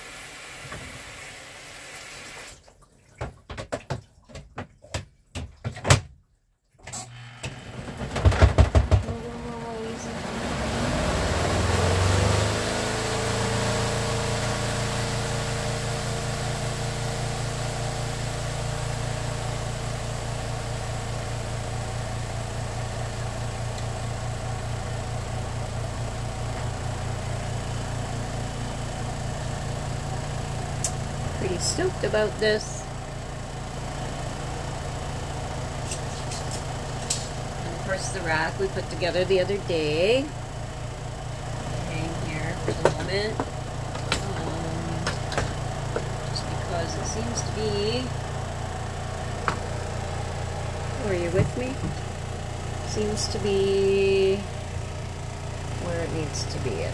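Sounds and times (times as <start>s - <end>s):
washing machine motor humming: 6.9s - 56.9s.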